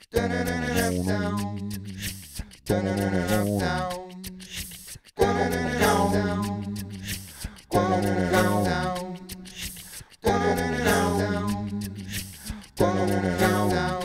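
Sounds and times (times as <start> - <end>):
looped layered vocals: 0.0 - 14.0.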